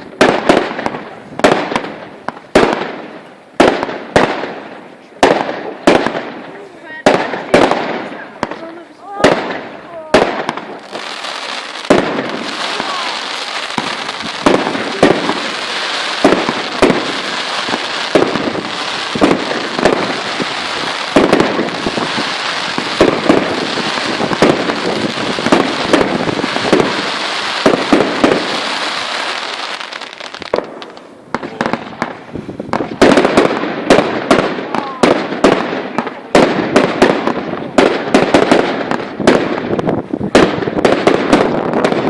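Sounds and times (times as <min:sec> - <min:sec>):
firework bangs: 0:00.0 - 0:42.0
fireworks crackling: 0:00.0 - 0:42.0.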